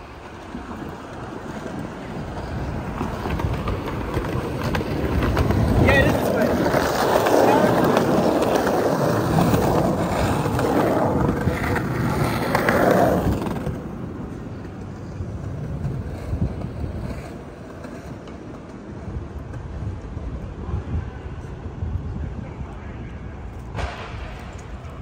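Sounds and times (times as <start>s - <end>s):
low rumble of street traffic: 0.0s - 25.0s
skateboard wheels rolling on concrete: 0.0s - 25.0s.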